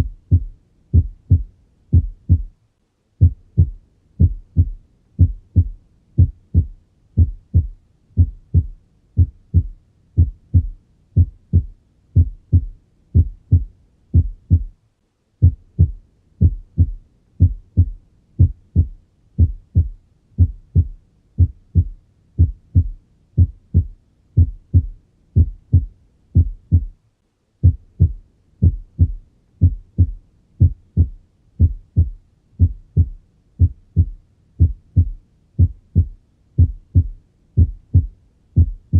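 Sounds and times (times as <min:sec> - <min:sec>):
heartbeat thuds: 0:00.0 - 0:02.6, 0:03.2 - 0:14.8, 0:15.4 - 0:27.0, 0:27.6 - 0:38.9.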